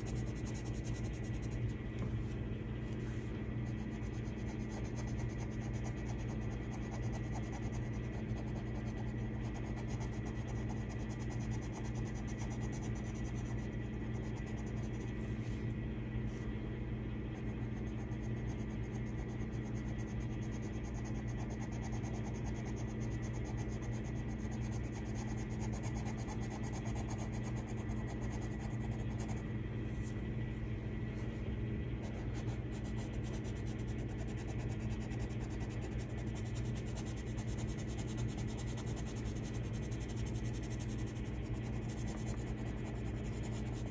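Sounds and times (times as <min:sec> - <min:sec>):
pencil scratching on paper: 0:00.0 - 0:01.7, 0:03.0 - 0:15.6, 0:17.4 - 0:29.4, 0:32.0 - 0:43.9
steady low hum: 0:00.0 - 0:43.9.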